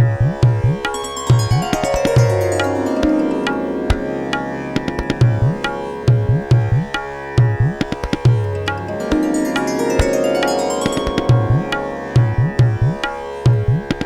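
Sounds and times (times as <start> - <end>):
tabla strokes: 0.0 - 14.0
sustained melodic tones: 0.7 - 7.2, 7.8 - 13.8.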